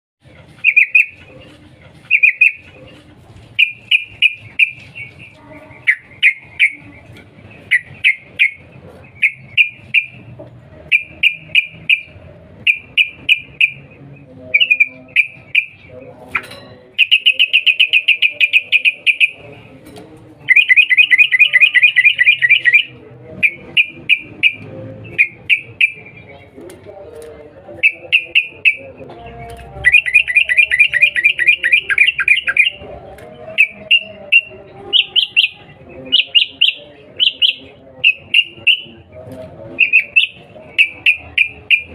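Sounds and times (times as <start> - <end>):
bird chirping calls: 0.2 - 27.0, 27.7 - 41.9
bird chattering: 0.4 - 19.8, 20.4 - 26.6, 27.7 - 39.1, 39.7 - 41.9.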